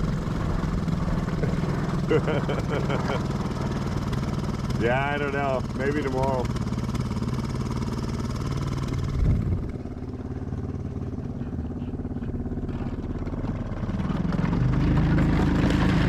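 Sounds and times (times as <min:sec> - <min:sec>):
small boat motor running: 0:00.0 - 0:16.0.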